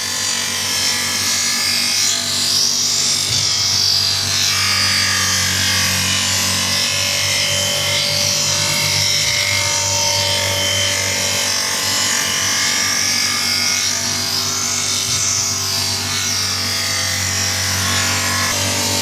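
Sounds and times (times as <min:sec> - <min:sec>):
grinder motor hum: 0:00.0 - 0:19.0.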